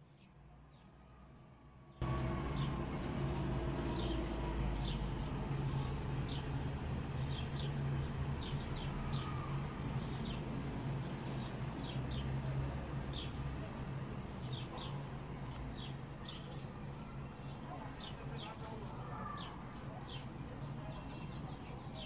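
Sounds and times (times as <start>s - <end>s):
small birds chirping: 2.0s - 22.0s.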